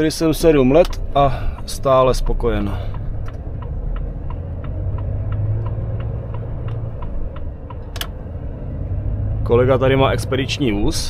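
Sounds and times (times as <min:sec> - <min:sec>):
diesel truck engine running: 0:00.0 - 0:11.0
turn signal ticking: 0:00.0 - 0:11.0.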